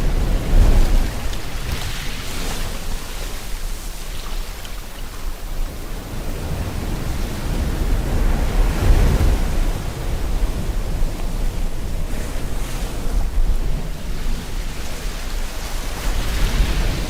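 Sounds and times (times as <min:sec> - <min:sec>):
ocean waves washing on shore: 0:00.0 - 0:17.0.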